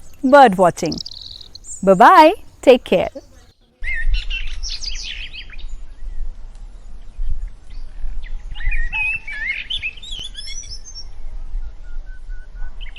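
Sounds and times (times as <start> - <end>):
songbirds chirping and warbling: 0.0 - 12.9.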